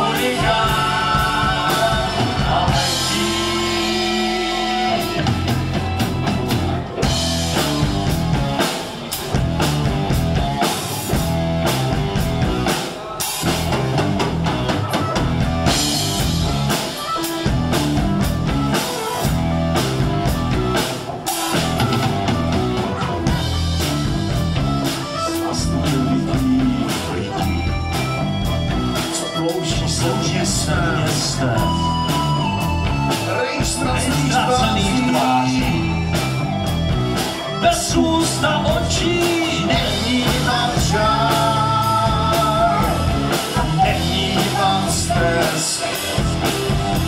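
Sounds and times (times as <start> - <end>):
drum kit beat: 0.0 - 47.0
electric guitar: 0.0 - 47.0.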